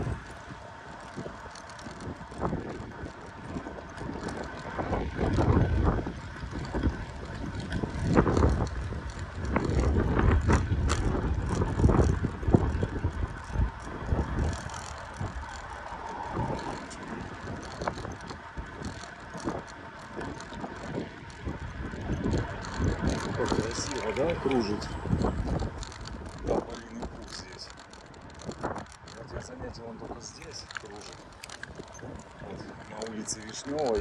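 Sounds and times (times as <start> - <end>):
bicycle clicks and knocks: 0.0 - 34.0
wind buffeting microphone: 0.0 - 34.0.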